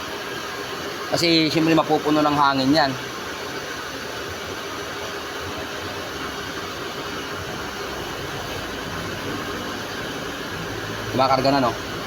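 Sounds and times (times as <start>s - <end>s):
electric water pump running: 0.0s - 12.0s.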